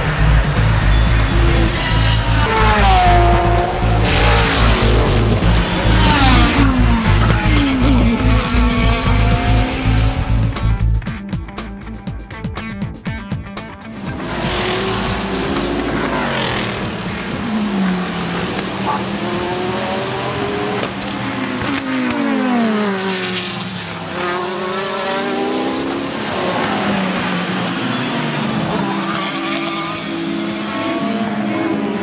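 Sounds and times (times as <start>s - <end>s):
race cars passing: 0.0s - 10.9s, 13.9s - 32.0s.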